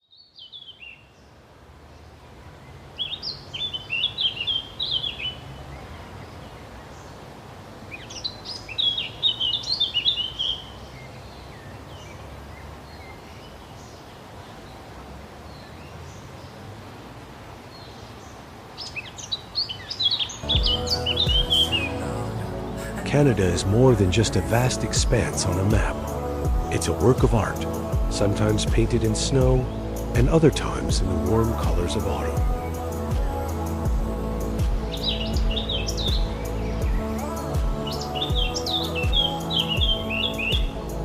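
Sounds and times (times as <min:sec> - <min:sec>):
songbird chirping: 0:00.0 - 0:41.0.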